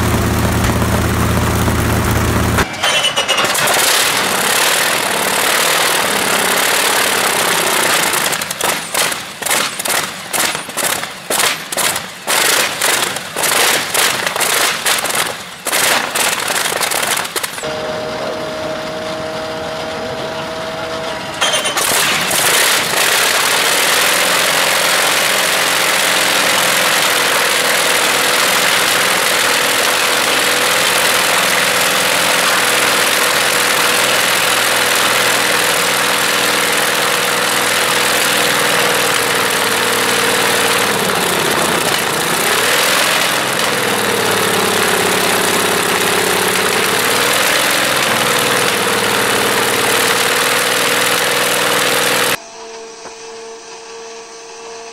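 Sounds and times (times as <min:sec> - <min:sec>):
radial aircraft engine running: 0:00.0 - 0:52.5.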